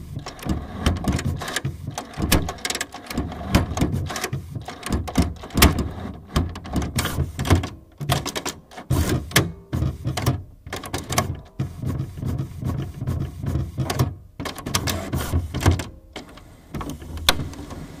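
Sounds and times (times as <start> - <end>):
printer mechanism clattering: 0.0 - 18.0.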